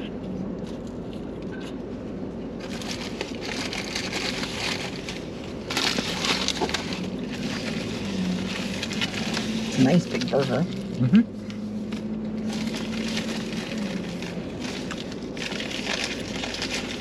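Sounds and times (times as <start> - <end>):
paper wrapper crinkling: 2.6 - 17.0.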